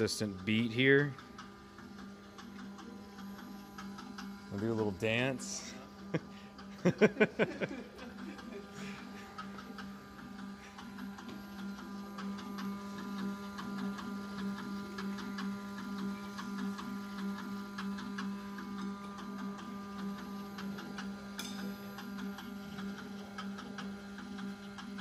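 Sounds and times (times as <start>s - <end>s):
low flywheel hum: 0.0s - 25.0s
mechanical ticking and pulsing: 0.0s - 25.0s.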